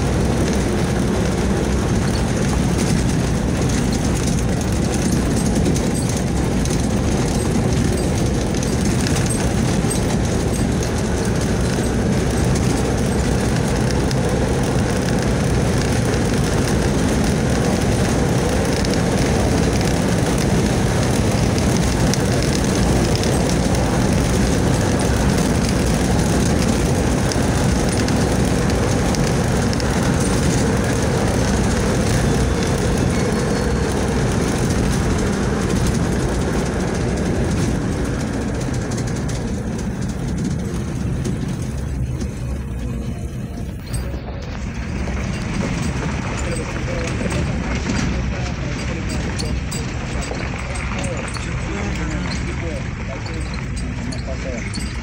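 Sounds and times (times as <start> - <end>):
vehicle road and engine noise: 0.0 - 55.0.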